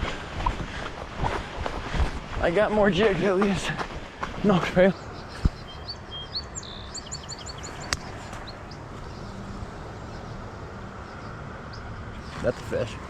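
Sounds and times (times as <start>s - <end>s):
songbird chirping: 2.5s - 13.0s.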